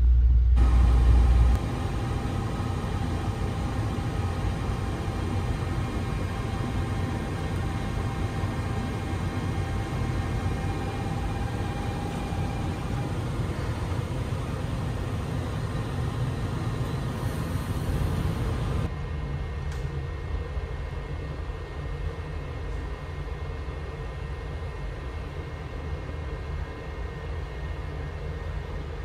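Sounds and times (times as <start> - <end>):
low hum in train car: 0.0 - 29.0.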